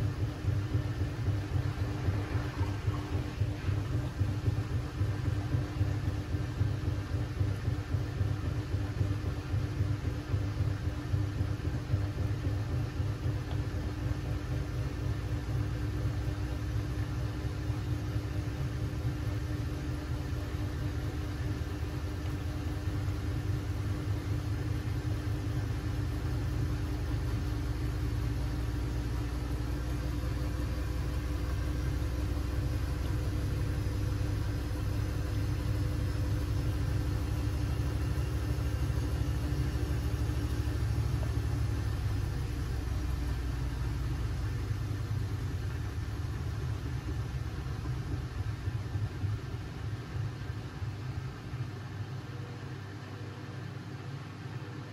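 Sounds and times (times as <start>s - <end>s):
washing machine rumbling: 0.0s - 54.9s.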